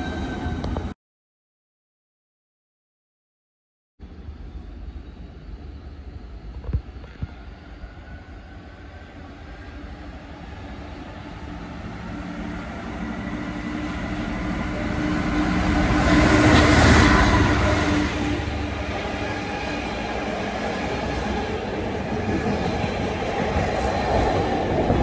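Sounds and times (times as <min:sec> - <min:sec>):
diesel locomotive passing: 0:04.0 - 0:25.0.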